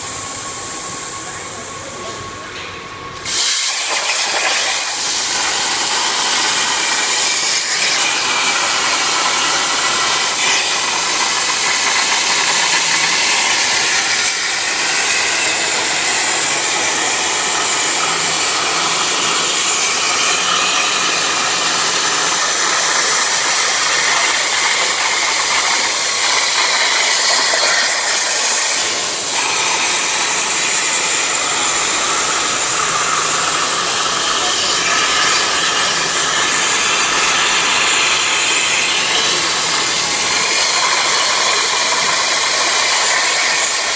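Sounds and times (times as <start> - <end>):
plasma torch cutting metal hiss: 3.2 - 43.9.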